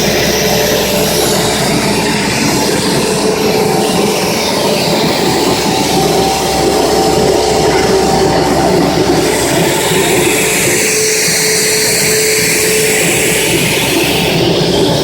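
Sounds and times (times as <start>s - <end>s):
extrusion machine whining hum: 0.0s - 15.0s.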